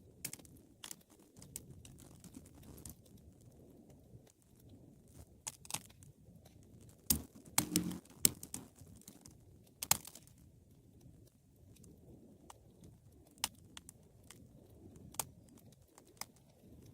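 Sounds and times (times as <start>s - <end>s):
wood fire crackling: 0.2s - 16.9s.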